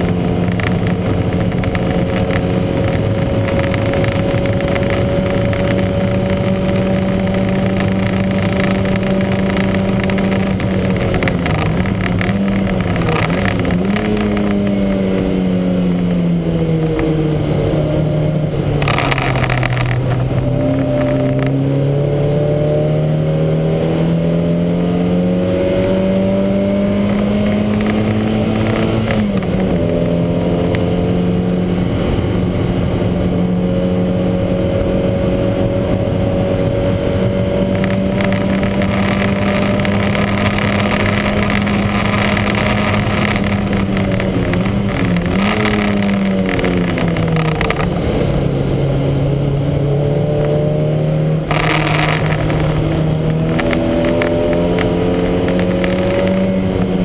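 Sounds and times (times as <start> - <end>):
rush of noise: 0.0 - 57.0.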